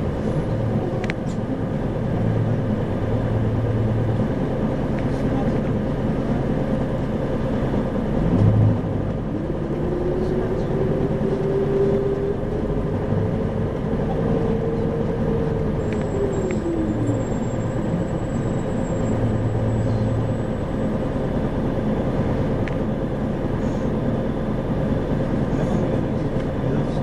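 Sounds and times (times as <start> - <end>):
bus diesel engine running: 0.0 - 27.0
drivetrain whine: 0.0 - 27.0
road noise: 0.0 - 27.0.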